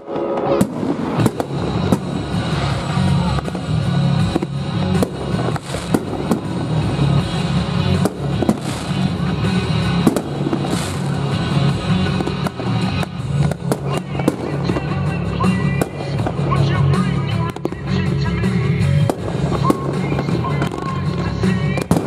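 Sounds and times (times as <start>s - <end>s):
fireworks bursting: 0.0s - 22.0s
music playing: 0.0s - 22.0s.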